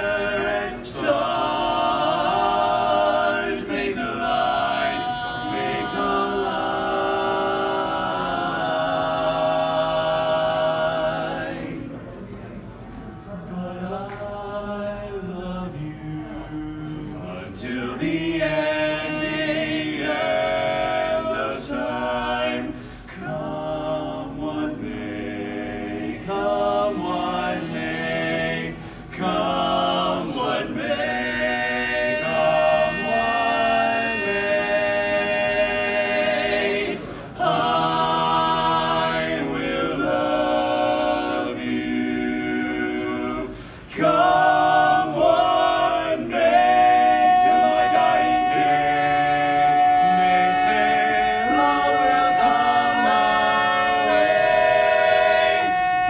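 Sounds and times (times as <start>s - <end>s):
male quartet singing a cappella: 0.0s - 12.0s, 13.4s - 56.0s.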